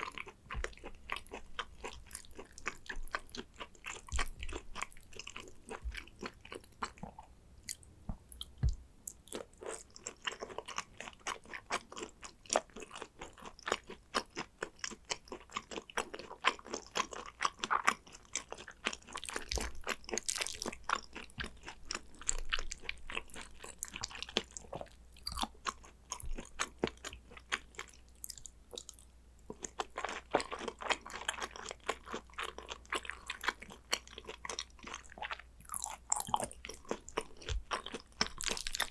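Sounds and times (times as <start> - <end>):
person chewing wetly: 0.0 - 38.9.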